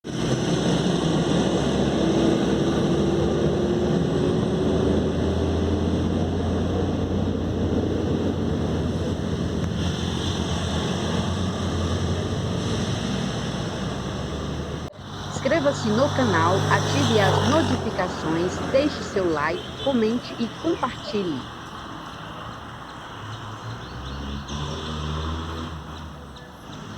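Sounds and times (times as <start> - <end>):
vehicle rumbling on road: 0.0 - 26.9.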